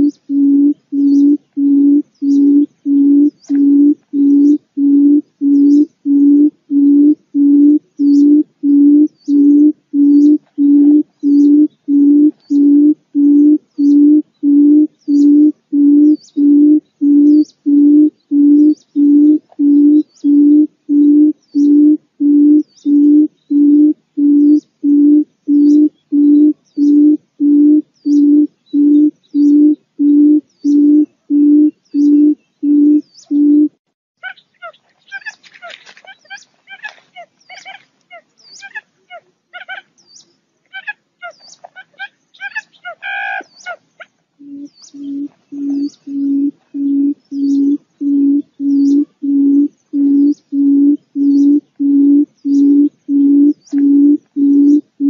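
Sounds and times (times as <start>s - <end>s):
bird hooting call: 0.0s - 35.4s, 40.7s - 55.0s
faint high chirps: 0.0s - 35.4s, 40.0s - 55.0s.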